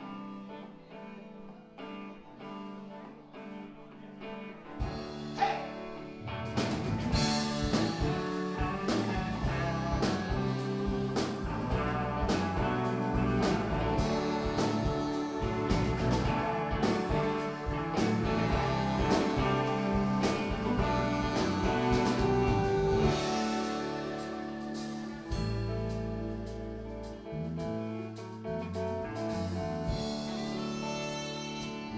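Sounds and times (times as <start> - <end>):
bass guitar: 0.0 - 31.9
electric guitars: 0.0 - 31.9
drums with steady beat: 4.8 - 31.9.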